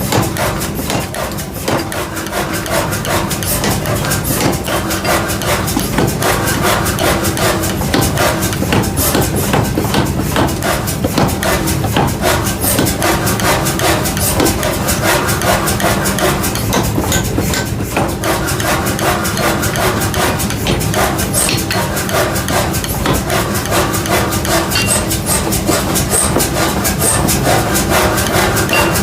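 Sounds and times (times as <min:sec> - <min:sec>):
hammer blows on iron: 0:00.0 - 0:29.0.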